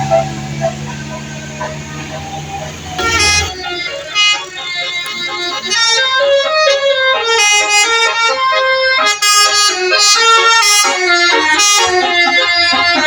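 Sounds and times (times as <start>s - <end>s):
musical air horns playing a tune: 0.0s - 13.0s.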